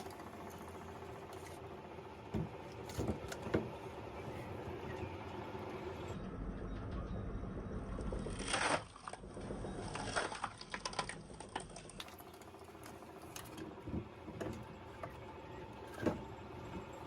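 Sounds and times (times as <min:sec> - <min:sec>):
machine rumble: 0:00.0 - 0:17.0.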